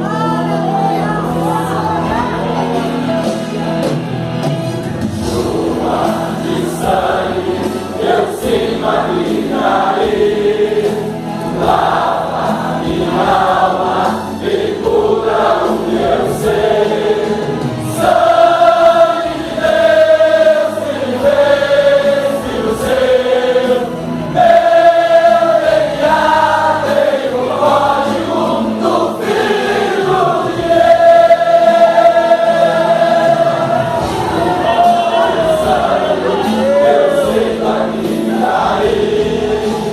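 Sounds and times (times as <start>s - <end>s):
men's choir singing a hymn: 5.0s - 39.9s.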